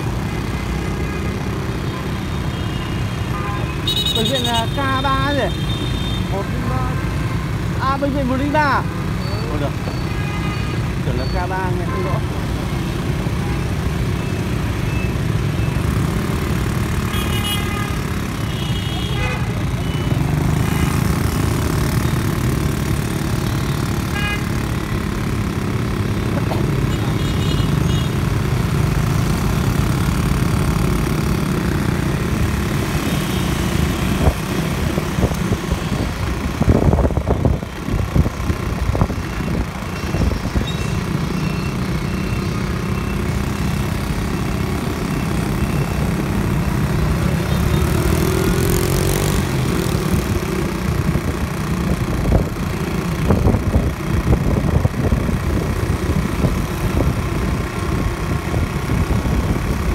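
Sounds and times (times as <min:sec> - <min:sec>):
traffic engine and road noise: 0:00.0 - 0:59.9.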